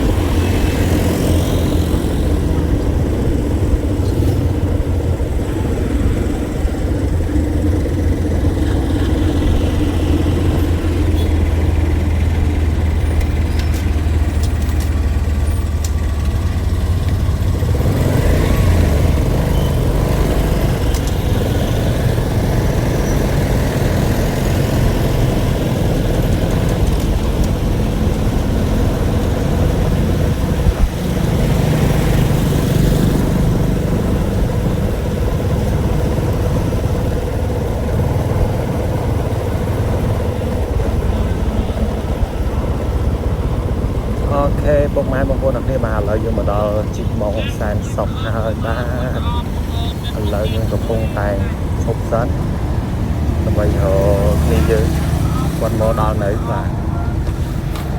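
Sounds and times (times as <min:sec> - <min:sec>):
vehicle engine droning: 0:00.0 - 0:57.9.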